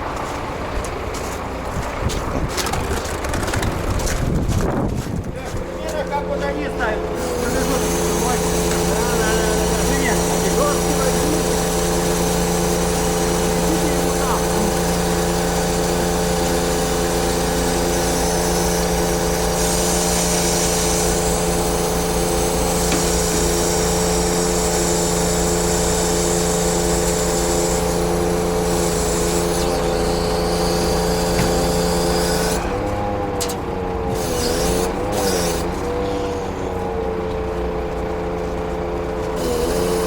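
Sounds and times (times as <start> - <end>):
diesel truck engine running: 0.0 - 17.9, 19.0 - 39.9.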